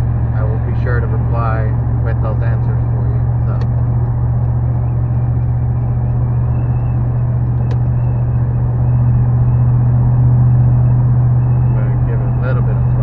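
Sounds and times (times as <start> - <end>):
car exhaust droning: 0.0 - 13.0.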